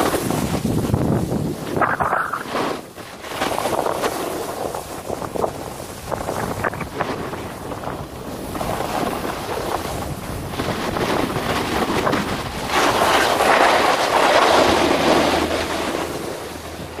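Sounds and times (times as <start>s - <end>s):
snowboard scraping over snow: 0.0s - 17.0s
wind on microphone: 0.0s - 17.0s.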